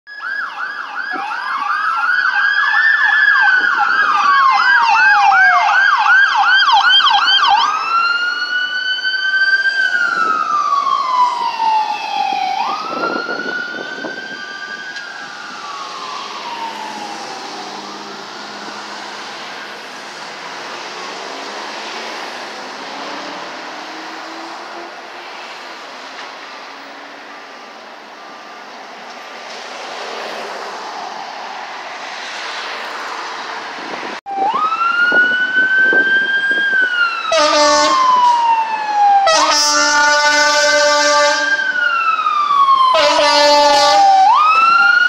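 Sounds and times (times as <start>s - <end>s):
ambulance siren yelp and wail: 0.1s - 45.0s
traffic noise: 0.1s - 45.0s.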